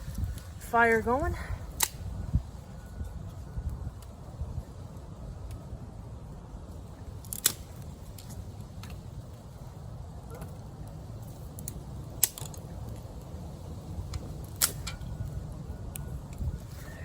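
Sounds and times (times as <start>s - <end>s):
campfire crackling: 0.0s - 17.0s
low steady rumble: 0.0s - 17.0s
sharp pops of fire: 1.6s - 5.9s, 6.6s - 17.0s.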